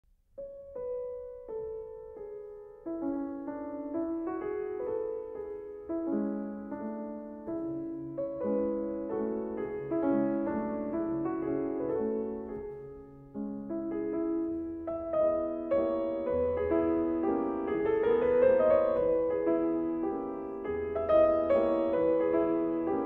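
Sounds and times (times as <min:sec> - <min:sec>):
piano music: 0:00.4 - 0:23.0.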